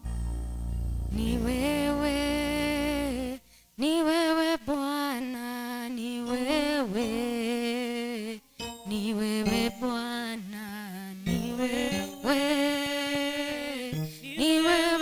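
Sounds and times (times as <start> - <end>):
woman singing into a microphone: 1.1 - 15.0.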